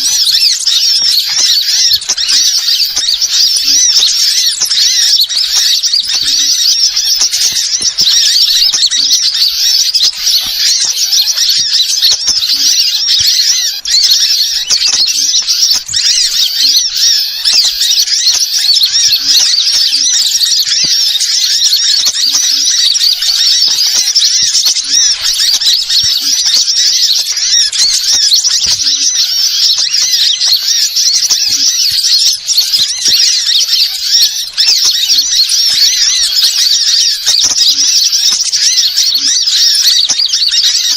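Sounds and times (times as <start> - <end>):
songbirds chirping and squeaking: 0.0 - 40.9.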